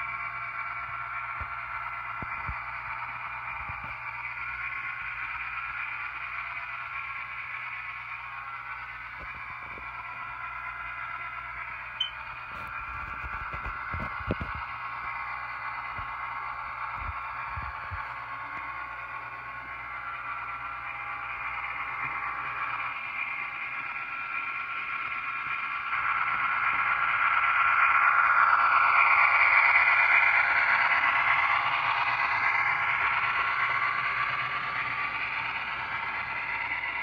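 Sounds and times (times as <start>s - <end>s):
model train motor whine: 0.0s - 37.0s.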